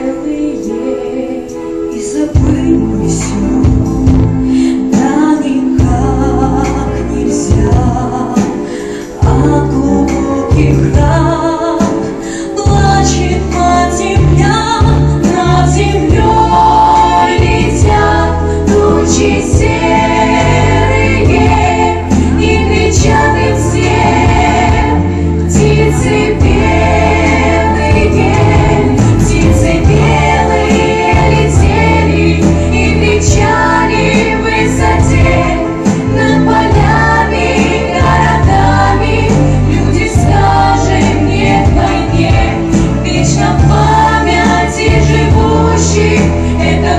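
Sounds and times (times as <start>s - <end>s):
female choir singing: 0.0s - 3.5s, 9.2s - 46.9s
instrumental accompaniment with bass: 0.0s - 46.9s.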